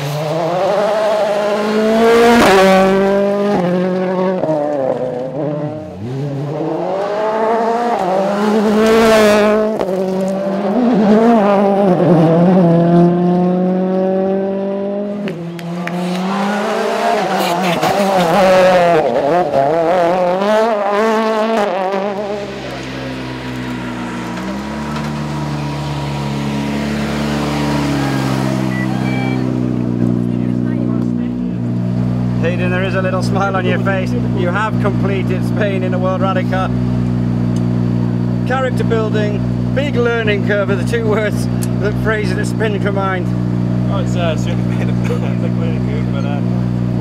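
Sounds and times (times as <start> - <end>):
rally car engines revving: 0.0 - 47.0.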